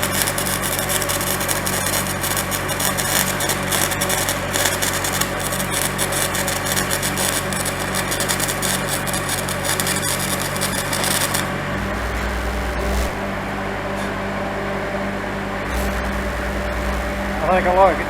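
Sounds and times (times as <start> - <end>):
welding arc crackling: 0.0 - 14.1, 15.6 - 18.0
welder engine droning: 0.0 - 18.0.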